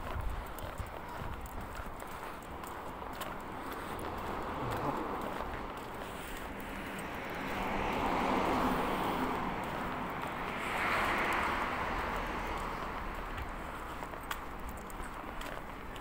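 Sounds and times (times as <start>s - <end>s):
low engine hum: 0.0s - 16.0s
traffic passing: 0.0s - 16.0s.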